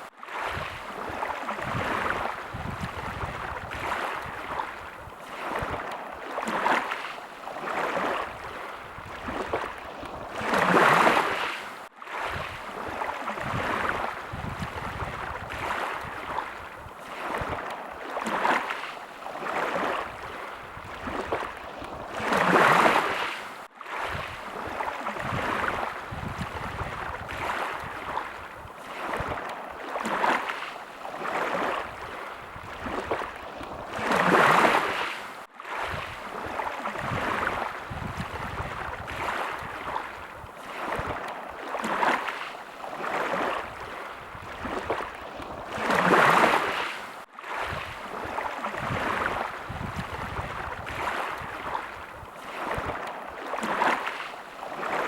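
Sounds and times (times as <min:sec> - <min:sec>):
small sea waves lapping: 0:00.0 - 0:55.0
wave breaking: 0:00.0 - 0:55.0.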